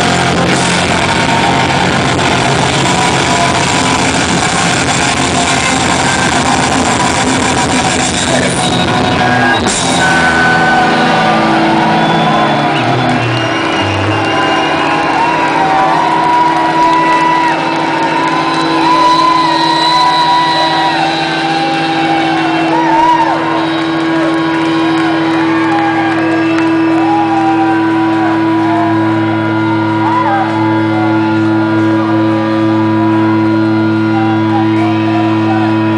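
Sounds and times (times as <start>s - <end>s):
live rock band playing: 0.0s - 35.9s.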